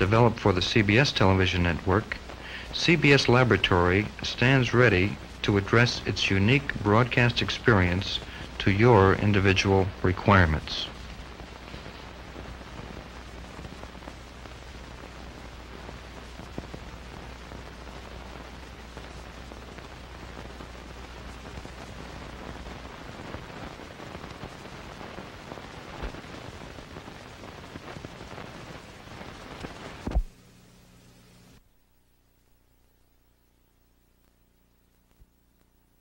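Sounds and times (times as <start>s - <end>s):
film soundtrack hiss and crackle: 0.0s - 36.0s.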